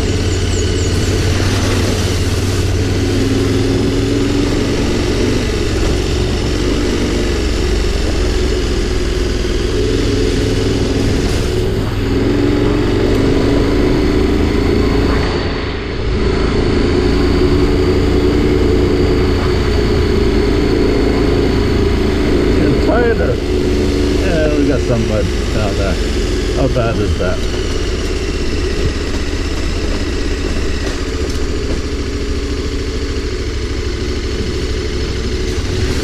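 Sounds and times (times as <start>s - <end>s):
motorcycle engine riding: 0.0s - 36.0s.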